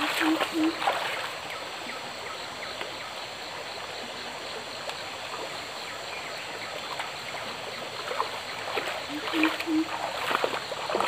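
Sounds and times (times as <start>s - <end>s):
faint water drips and trickles: 0.0s - 11.0s
forest stream running: 0.0s - 11.0s.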